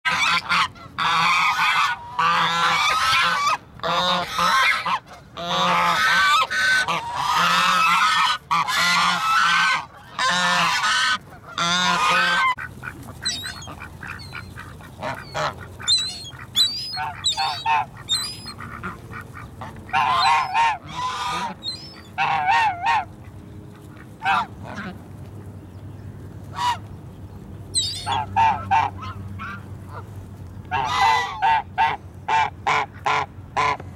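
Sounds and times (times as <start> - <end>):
geese honking: 0.1 - 25.1, 26.5 - 27.0, 27.7 - 33.9.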